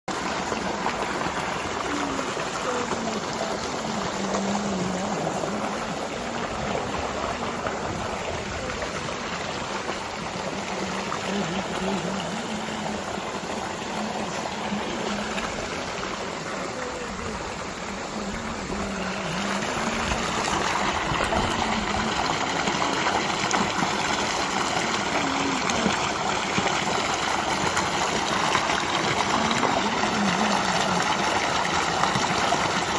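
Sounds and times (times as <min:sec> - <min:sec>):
stream rushing: 0:00.1 - 0:32.9.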